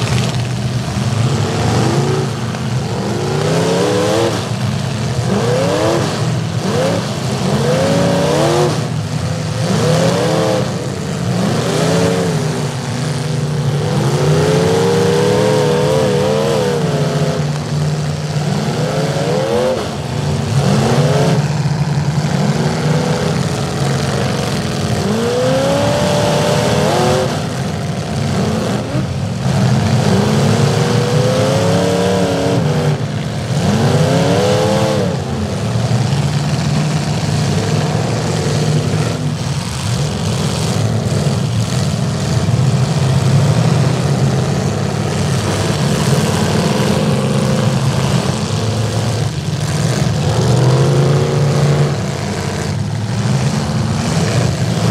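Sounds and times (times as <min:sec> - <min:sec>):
truck engines revving hard: 0:00.0 - 0:54.9.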